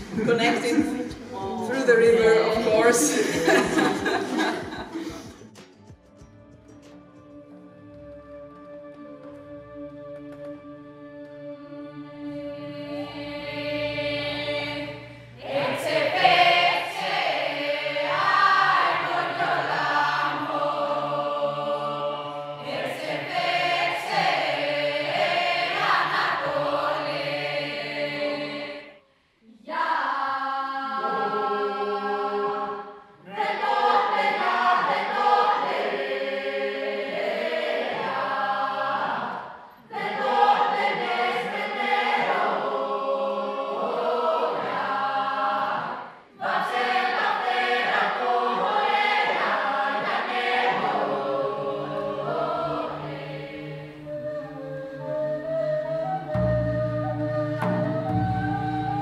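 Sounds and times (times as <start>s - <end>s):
mixed choir singing: 0.0s - 5.5s, 8.7s - 56.3s.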